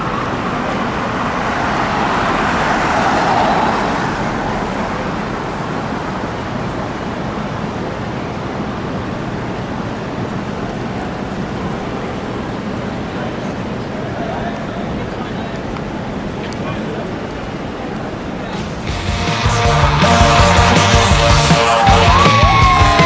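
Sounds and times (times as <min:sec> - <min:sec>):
road noise from passing vehicles: 0:00.0 - 0:23.0.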